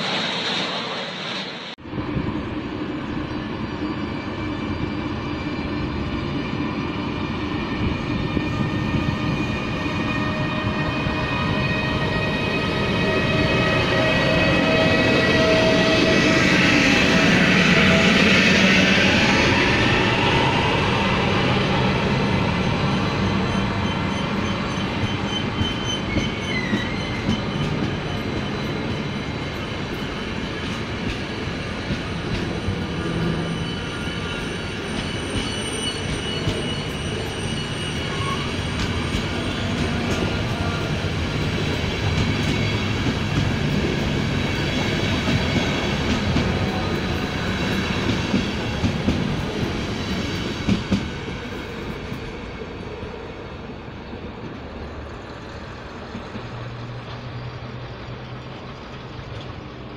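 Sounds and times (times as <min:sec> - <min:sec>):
train wheels rumbling on rails: 0:01.8 - 0:59.9.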